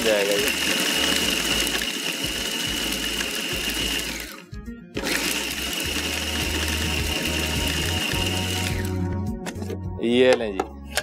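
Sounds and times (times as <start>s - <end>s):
food processor motor whine: 0.0s - 9.1s.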